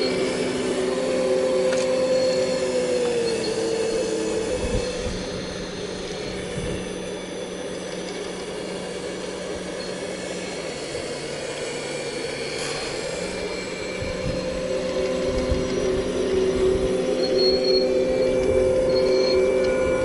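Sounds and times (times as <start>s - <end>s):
excavator engine running: 0.0s - 20.0s
squealing metallic whine: 0.0s - 20.0s.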